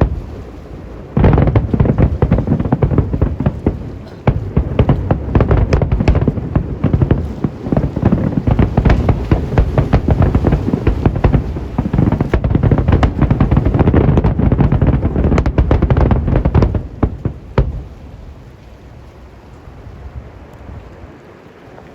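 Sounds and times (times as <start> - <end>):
fireworks booming and crackling: 0.0 - 19.1
low steady rush: 0.0 - 21.9.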